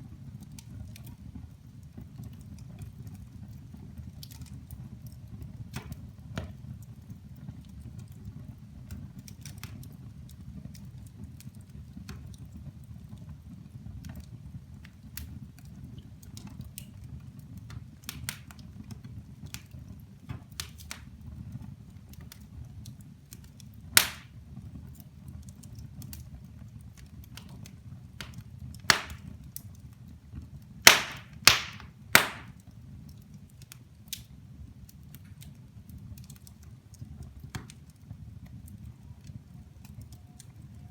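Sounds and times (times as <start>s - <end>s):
fire burning with crackles: 0.0s - 40.9s
burning logs popping: 0.3s - 40.9s.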